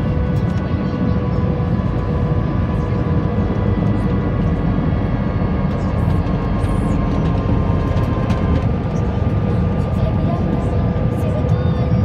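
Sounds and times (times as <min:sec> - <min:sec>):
deep roar of jet engines: 0:00.0 - 0:12.0.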